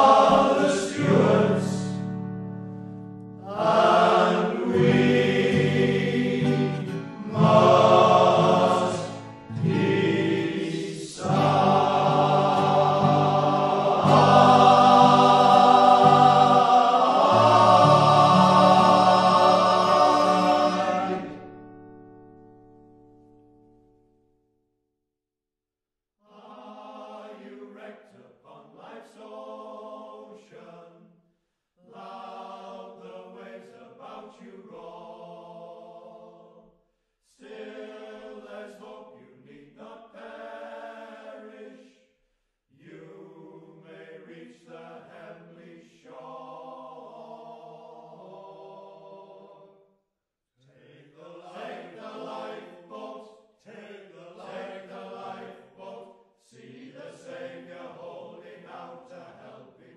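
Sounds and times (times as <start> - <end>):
male choir singing: 0.0 - 2.2, 3.4 - 21.5, 26.3 - 31.1, 31.8 - 36.6, 37.3 - 42.0, 42.8 - 49.8, 50.6 - 59.9.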